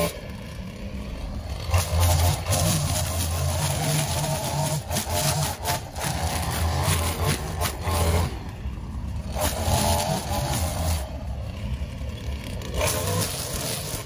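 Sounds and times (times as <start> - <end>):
string trimmer engine revving: 0.0 - 14.0.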